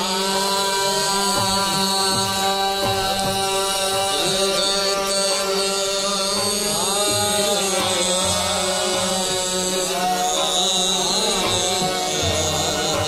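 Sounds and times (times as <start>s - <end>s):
harmonium drone: 0.0s - 13.0s
person singing sustained melody: 0.0s - 13.0s.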